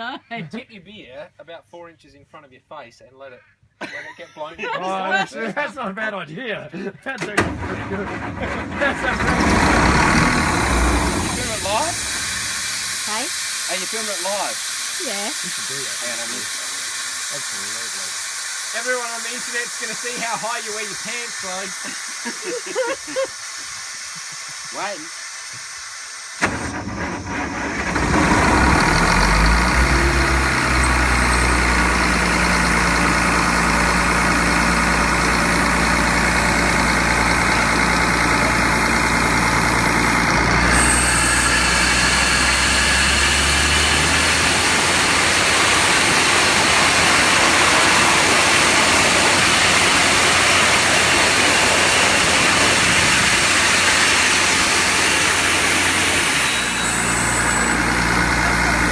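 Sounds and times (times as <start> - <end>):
air compressor hum: 7.4 - 58.9
air blowing: 9.0 - 58.9.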